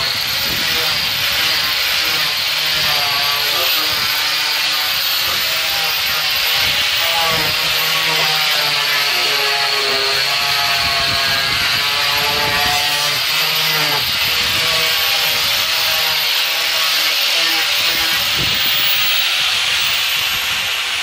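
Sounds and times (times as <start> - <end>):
angle grinder grinding wood: 0.0 - 21.0.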